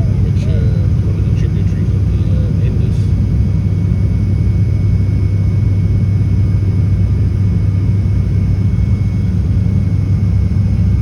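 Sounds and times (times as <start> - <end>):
propeller plane cabin drone: 0.0 - 11.0.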